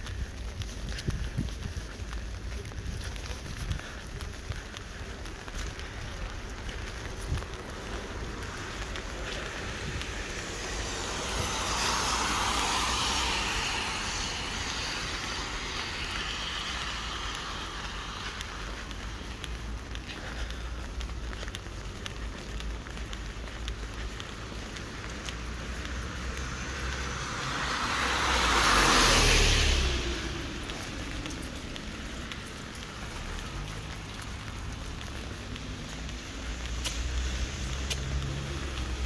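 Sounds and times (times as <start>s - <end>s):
car tyres hissing on wet road: 0.0s - 39.0s
steady rain: 0.0s - 39.0s.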